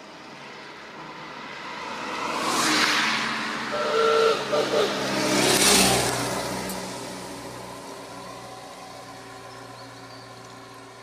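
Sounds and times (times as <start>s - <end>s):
cars driving past: 0.1s - 11.0s.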